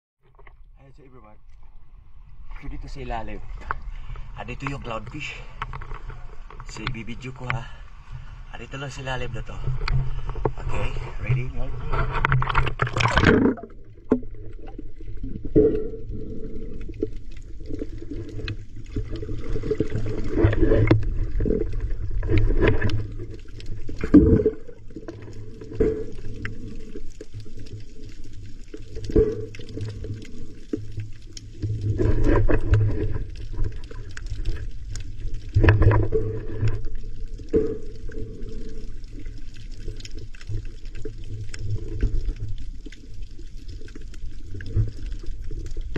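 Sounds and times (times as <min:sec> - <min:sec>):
muffled underwater rumble: 0:00.2 - 0:45.9
water splash: 0:09.0 - 0:45.9.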